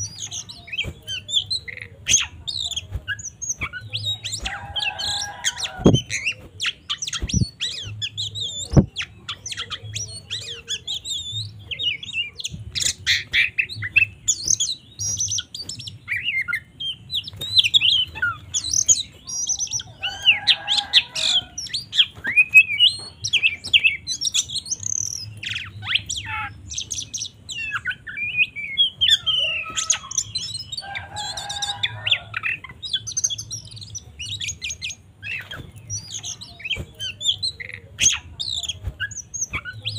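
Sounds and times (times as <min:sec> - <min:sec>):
bird singing chirps and whistles: 0:00.0 - 0:39.9
harsh rasping bird calls: 0:00.0 - 0:39.9.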